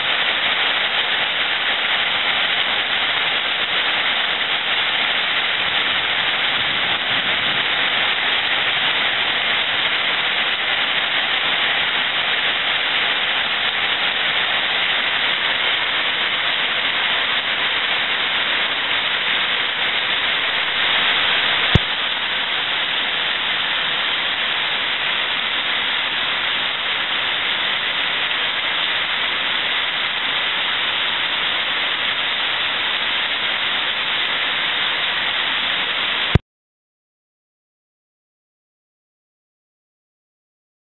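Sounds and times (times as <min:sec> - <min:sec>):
heavy rain pouring: 0:00.0 - 0:36.4.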